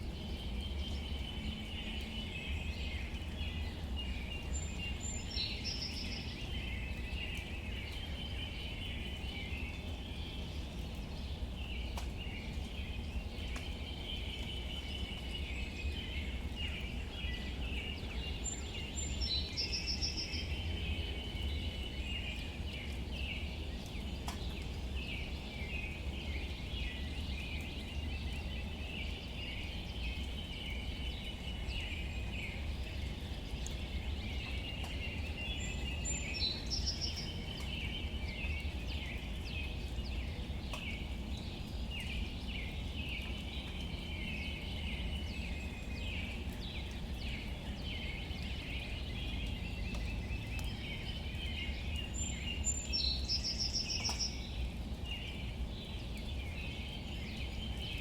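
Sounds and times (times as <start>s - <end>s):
birds chirping: 0.2s - 58.0s.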